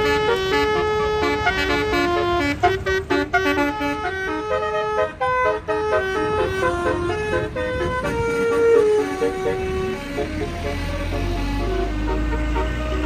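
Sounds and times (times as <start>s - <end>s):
bus horn playing a melody: 0.0s - 13.0s.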